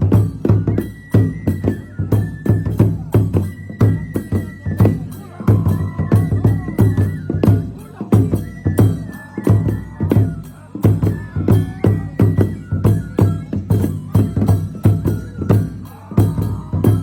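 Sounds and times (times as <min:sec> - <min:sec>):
drum beating: 0:00.0 - 0:17.0
wavering flute melody: 0:00.0 - 0:17.0.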